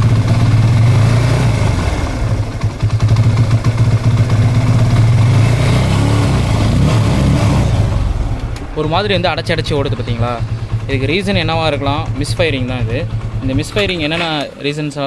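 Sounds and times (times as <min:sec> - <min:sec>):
motorcycle engine misfiring: 0:00.0 - 0:15.0.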